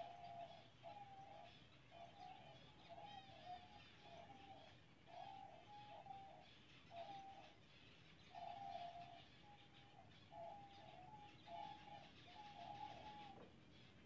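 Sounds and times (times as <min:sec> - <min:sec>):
low cooing call: 0:00.0 - 0:07.6, 0:08.3 - 0:13.5
finches chirping: 0:00.0 - 0:14.0.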